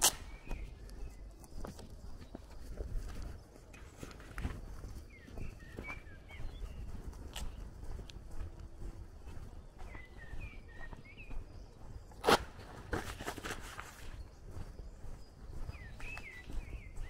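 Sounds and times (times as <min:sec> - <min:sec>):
birds chirping: 0:00.0 - 0:17.0
footsteps on dirt road: 0:00.0 - 0:17.0.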